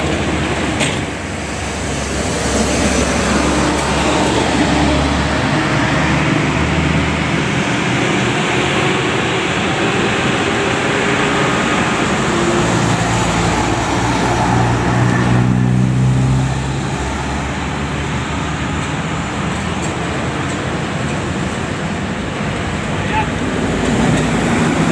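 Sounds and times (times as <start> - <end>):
heavy vehicle engine running: 0.0 - 24.9
road noise: 0.0 - 24.9.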